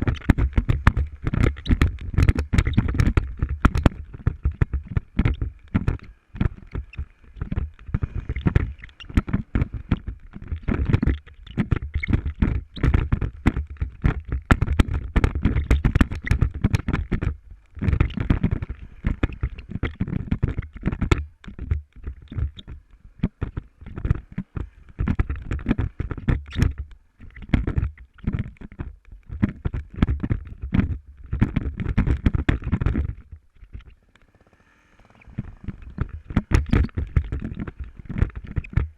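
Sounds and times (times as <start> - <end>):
knocks and rattles on microphone: 0.0 - 34.3, 35.2 - 38.9.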